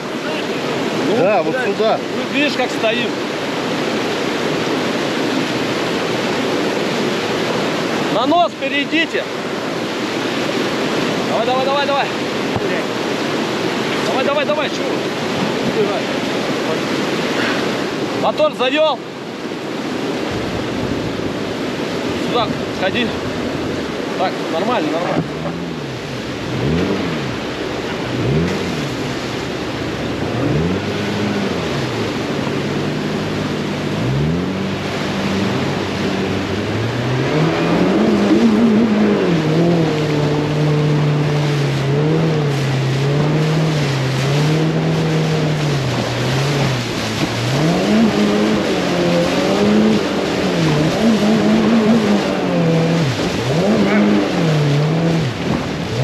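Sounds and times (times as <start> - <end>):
outboard motor revving: 0.0 - 18.8, 19.5 - 56.0
rushing water: 0.0 - 56.0.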